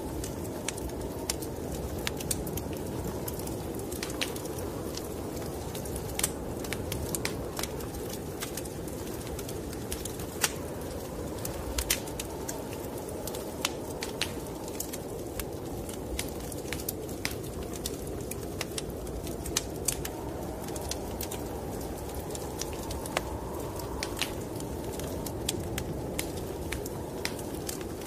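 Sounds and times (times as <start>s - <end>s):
low rushing wind: 0.0s - 28.0s
wood fire crackling: 0.0s - 28.0s.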